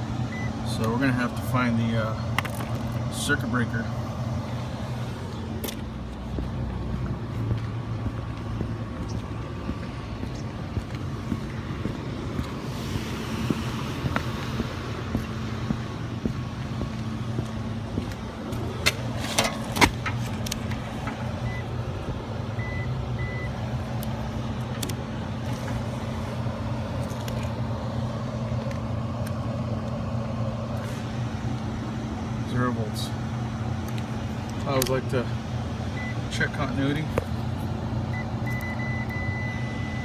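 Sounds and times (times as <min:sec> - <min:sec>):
machinery hum: 0:00.0 - 0:36.3.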